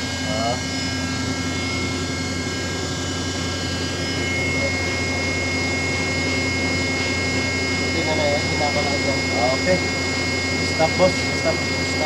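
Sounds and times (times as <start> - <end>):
crane machine hum and whine: 0.0 - 12.0.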